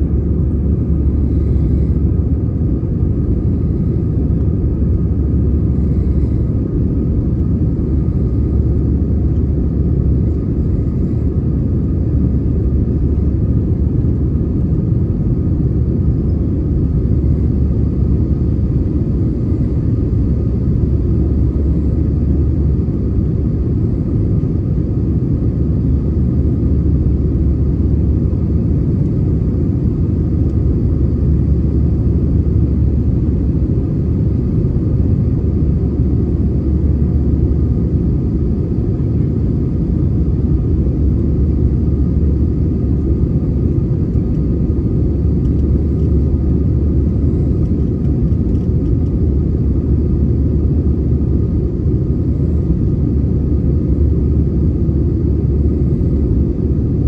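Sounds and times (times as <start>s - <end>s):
faint steady whine: 0.0s - 57.0s
jet engines rumbling in cabin: 0.0s - 57.0s.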